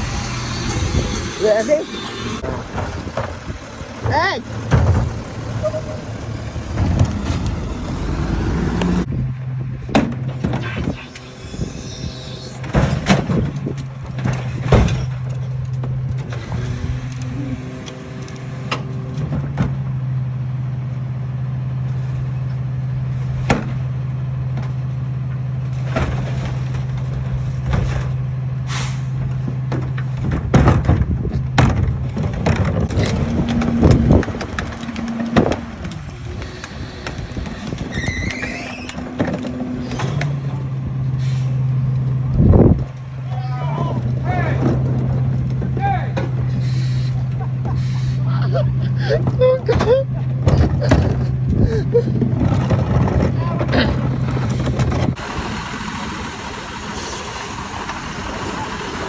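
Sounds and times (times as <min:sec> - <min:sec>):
garbage truck engine humming: 0:00.0 - 0:59.0.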